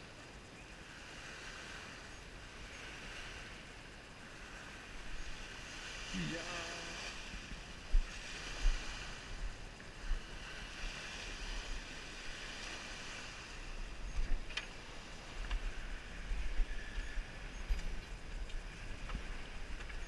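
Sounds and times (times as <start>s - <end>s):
wind gusting on microphone: 0.8s - 20.0s
waves washing onto stony shore: 0.9s - 20.0s.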